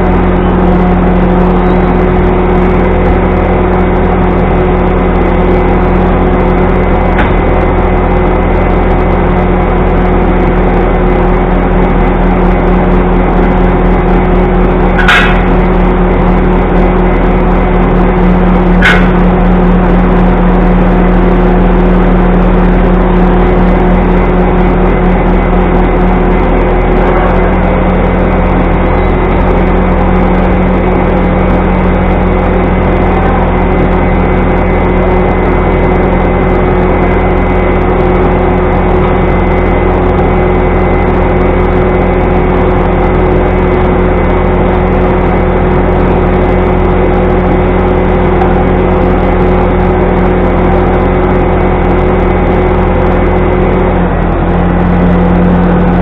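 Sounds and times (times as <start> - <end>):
mechanical drone: 0.0 - 56.0.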